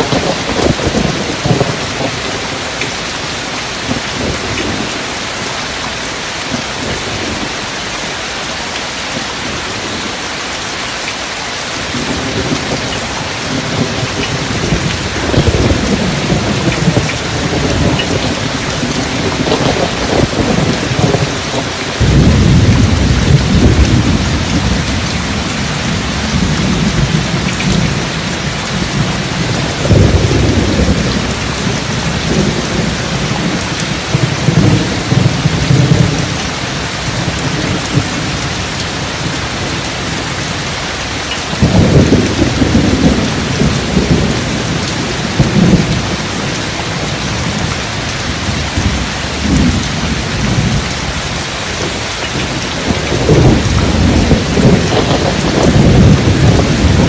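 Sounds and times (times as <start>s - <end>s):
thunder rumbling: 0.0s - 5.8s, 11.8s - 57.0s
steady rain: 0.0s - 57.0s.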